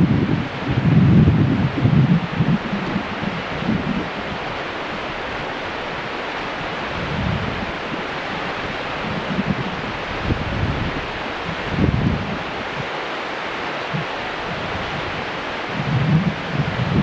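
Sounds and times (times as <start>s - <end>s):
low wind buffets: 0.0s - 17.0s
wind rushing over microphone: 0.0s - 17.0s.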